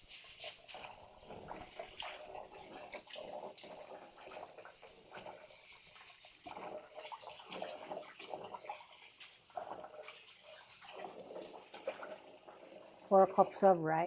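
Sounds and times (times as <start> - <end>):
water splashing and trickling: 0.0 - 13.8.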